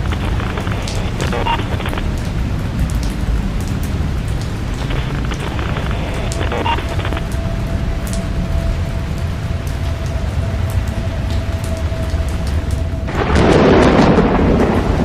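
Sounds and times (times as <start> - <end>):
deep low rumble: 0.0 - 15.0
rain hissing: 0.0 - 15.0
raindrops ticking: 0.0 - 15.0.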